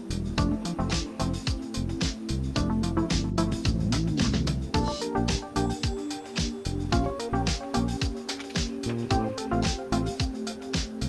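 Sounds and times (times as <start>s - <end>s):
background music with steady beat: 0.0s - 11.0s
bass: 0.0s - 11.0s.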